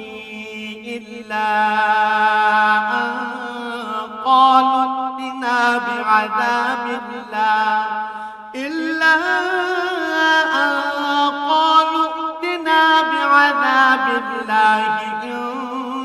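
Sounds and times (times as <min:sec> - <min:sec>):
man chanting melodically: 0:00.0 - 0:08.0, 0:08.6 - 0:16.0.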